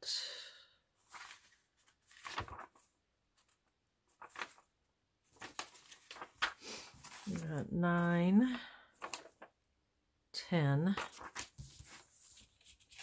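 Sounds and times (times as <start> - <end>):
paper rustling: 1.0 - 9.6, 10.9 - 13.0.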